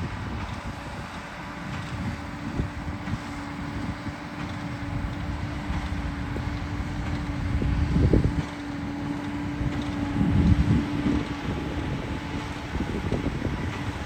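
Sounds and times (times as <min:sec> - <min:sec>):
farm machinery engine humming: 0:00.0 - 0:14.0
wind buffeting microphone: 0:00.0 - 0:14.0.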